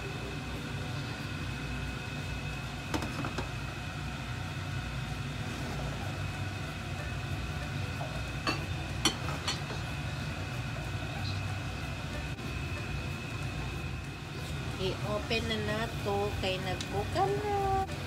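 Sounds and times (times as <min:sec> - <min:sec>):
stovetop low hum: 0:00.0 - 0:18.0.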